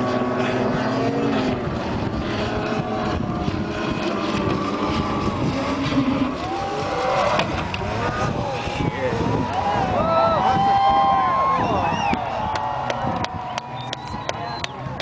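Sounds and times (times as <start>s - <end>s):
snowmobile engine at high revs: 0.0s - 15.0s.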